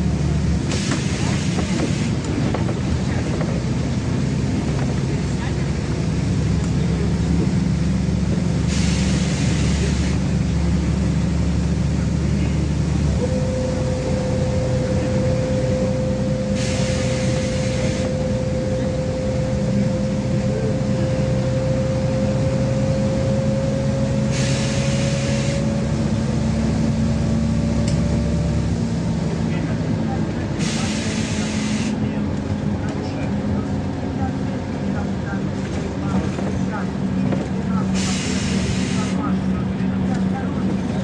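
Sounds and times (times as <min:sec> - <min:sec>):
bus engine and road hum: 0:00.0 - 0:41.0.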